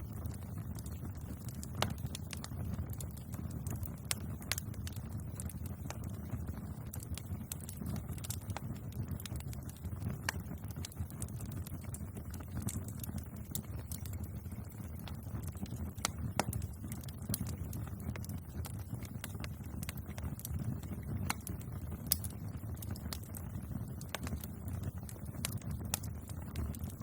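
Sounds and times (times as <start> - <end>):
burning wood crackling and popping: 0.0 - 27.0
low rumble of flames: 0.0 - 27.0.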